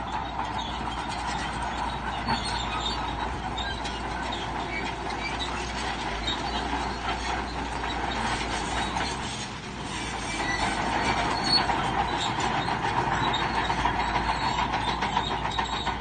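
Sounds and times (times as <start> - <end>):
bulldozer diesel engine running: 0.0 - 16.0
steel tracks clanking: 0.0 - 16.0.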